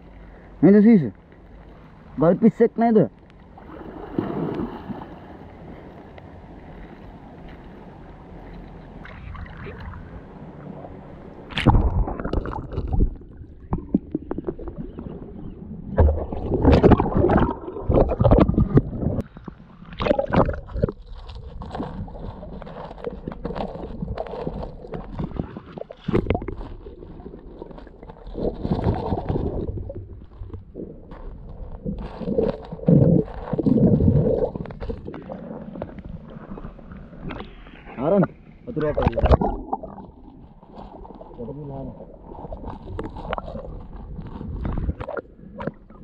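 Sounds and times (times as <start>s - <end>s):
muffled underwater gurgling: 9.0s - 46.0s.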